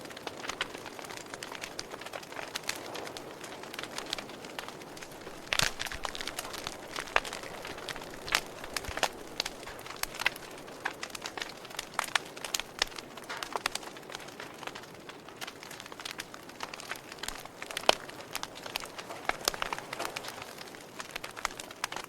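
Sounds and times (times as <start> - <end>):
soft steady hiss: 0.0 - 22.0
wood fire crackling and popping: 0.0 - 22.0.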